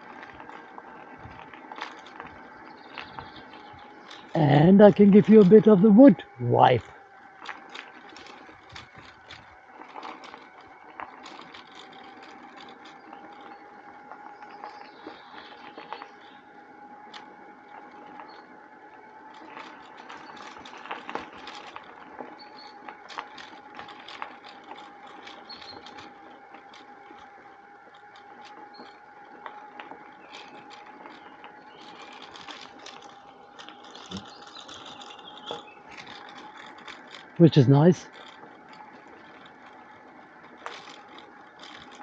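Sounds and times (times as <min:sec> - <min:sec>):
bicycle tyres rolling: 0:00.0 - 0:42.0
small clicks and rattles: 0:00.0 - 0:42.0.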